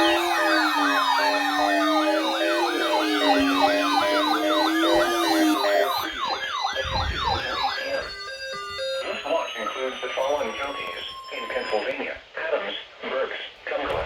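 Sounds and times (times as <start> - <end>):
electronic siren yelping: 0.0 - 12.1
falling siren wail: 0.0 - 12.1.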